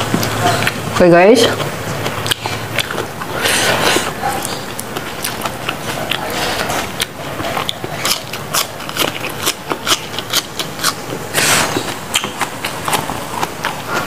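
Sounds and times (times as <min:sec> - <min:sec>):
crunching raw vegetables: 0:00.0 - 0:14.0.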